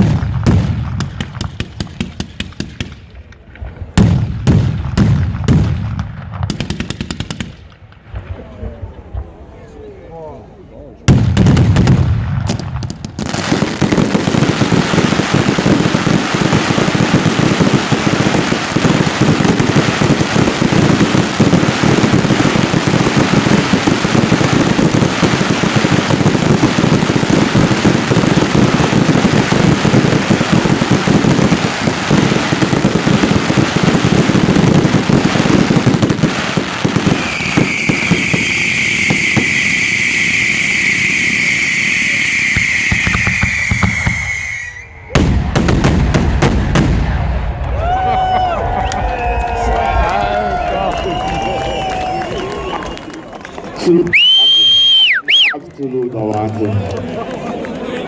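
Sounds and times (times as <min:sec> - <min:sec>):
fireworks bangs and crackles: 0:00.0 - 0:09.7, 0:11.0 - 0:58.0.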